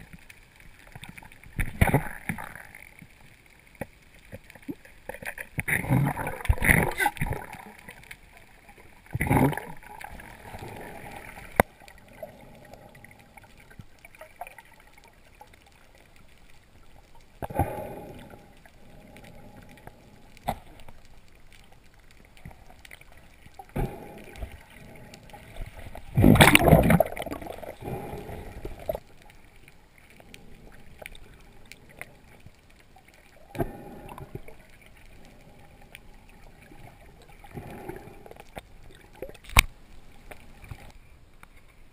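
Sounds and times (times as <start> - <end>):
water gurgling and rushing: 4.2 - 41.0.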